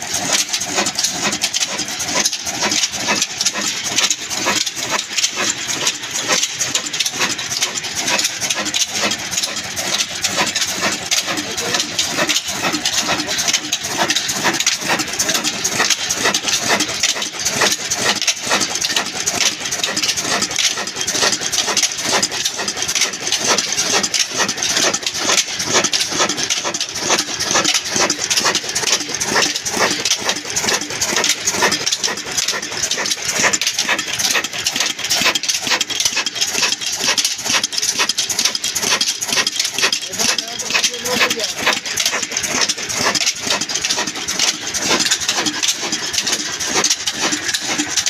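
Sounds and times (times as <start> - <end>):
diesel engine clattering: 0.0 - 48.0.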